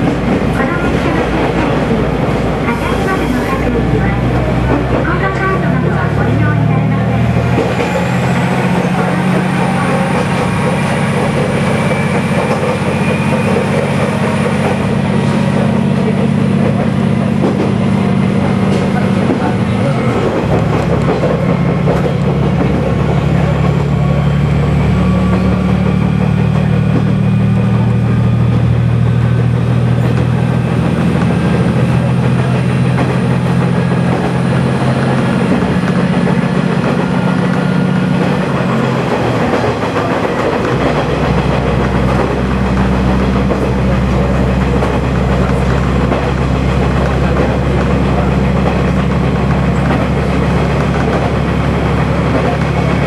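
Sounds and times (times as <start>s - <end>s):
diesel engine drone: 0.0s - 53.0s
train wheels on rails: 0.0s - 53.0s.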